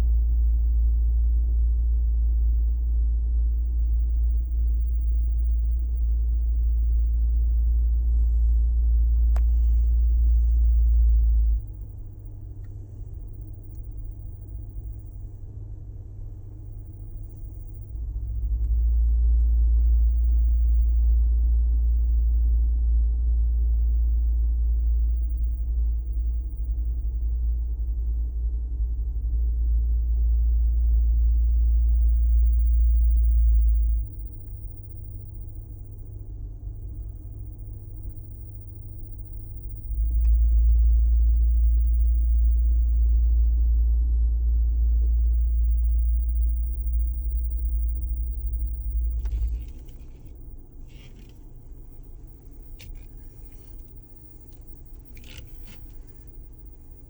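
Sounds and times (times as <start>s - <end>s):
deep low-pitched drone: 0.0s - 57.0s.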